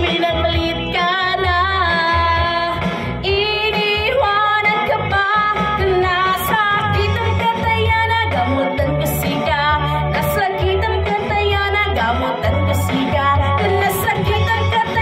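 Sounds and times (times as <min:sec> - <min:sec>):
karaoke backing track with bass beat: 0:00.0 - 0:15.0
woman singing into microphone: 0:00.0 - 0:15.0.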